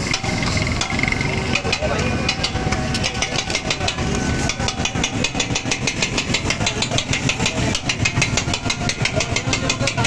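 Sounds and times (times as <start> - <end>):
spatulas chopping on metal griddle: 0.0 - 10.0.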